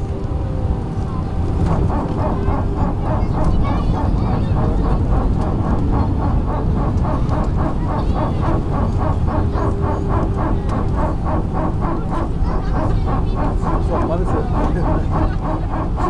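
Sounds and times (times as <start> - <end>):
engine and runway rumble: 0.0 - 16.0
fast even rattle: 1.5 - 16.0.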